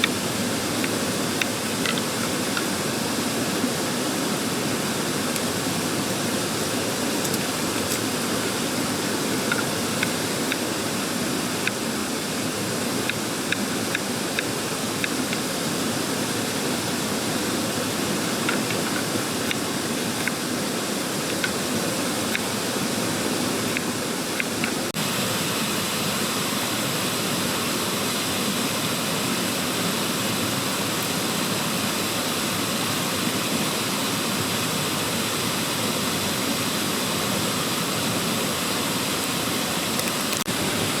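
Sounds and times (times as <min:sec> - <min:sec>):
stream rushing: 0:00.0 - 0:41.0.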